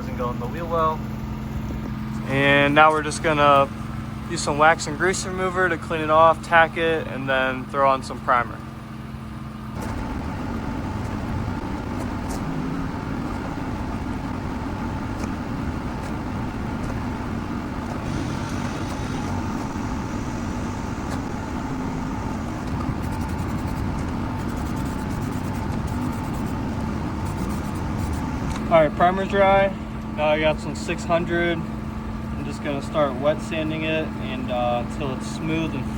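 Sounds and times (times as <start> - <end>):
faint constant hum: 0.0 - 35.9
mechanical engine drone: 0.0 - 35.9.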